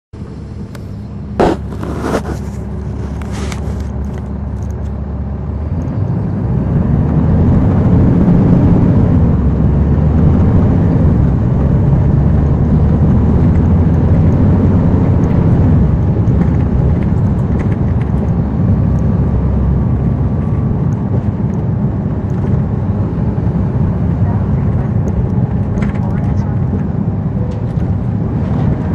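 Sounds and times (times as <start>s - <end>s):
bus diesel engine drone: 0.1s - 28.9s.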